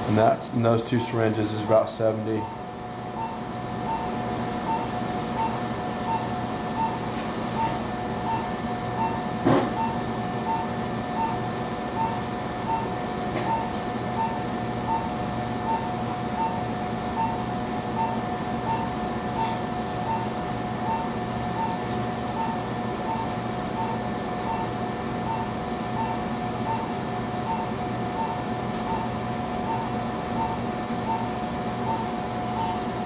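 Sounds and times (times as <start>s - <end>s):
hum of surgical equipment: 0.0s - 33.0s
patient monitor beeping: 2.3s - 33.0s.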